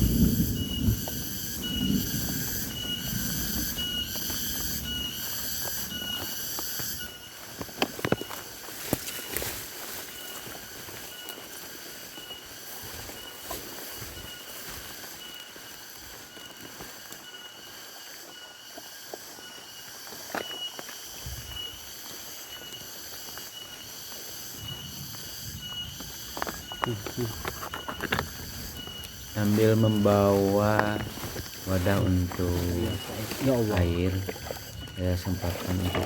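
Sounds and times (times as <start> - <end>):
insects buzzing and trilling: 0.0 - 36.0.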